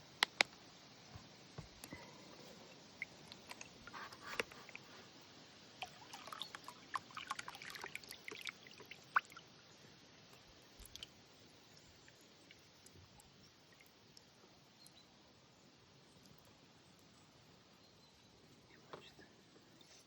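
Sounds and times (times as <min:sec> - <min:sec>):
light water splashes and drips: 0:00.2 - 0:20.0.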